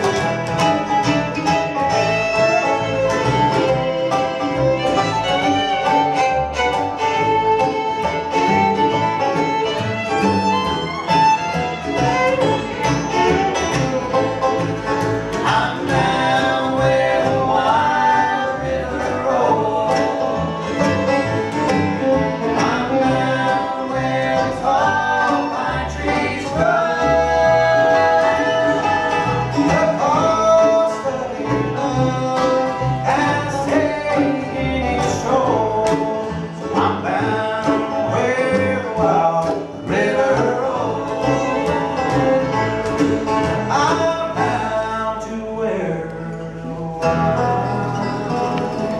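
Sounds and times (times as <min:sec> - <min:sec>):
bluegrass band playing: 0:00.0 - 0:48.9.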